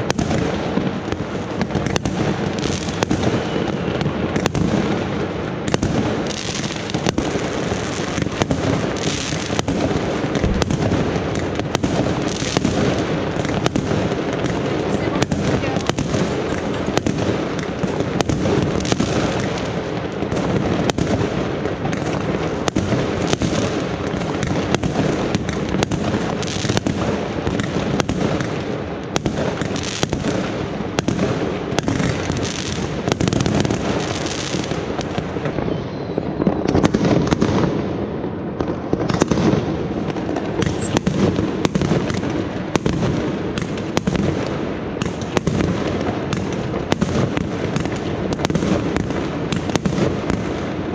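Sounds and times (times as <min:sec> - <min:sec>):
distant firework bursts: 0:00.0 - 0:50.9
fireworks bangs: 0:00.0 - 0:50.9
fireworks crackling: 0:00.0 - 0:50.9.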